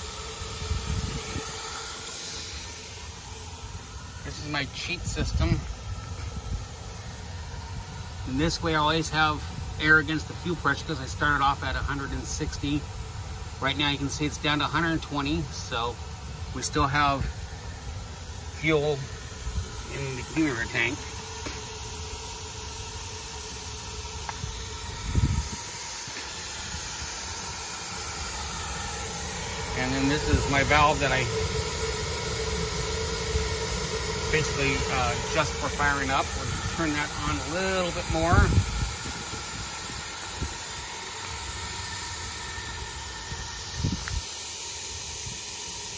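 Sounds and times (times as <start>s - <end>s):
burner hissing: 0.0s - 45.9s.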